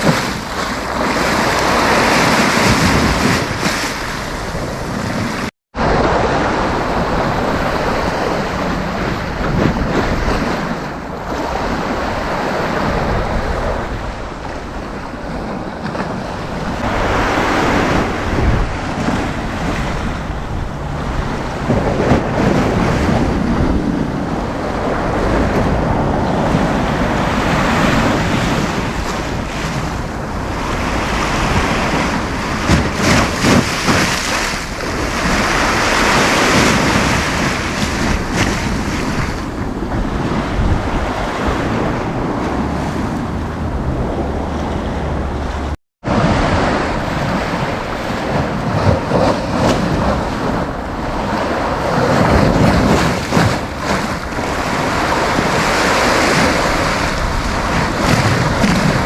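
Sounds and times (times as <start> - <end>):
sea waves breaking on beach: 0.0 - 59.0
wind buffeting microphone: 0.0 - 59.0.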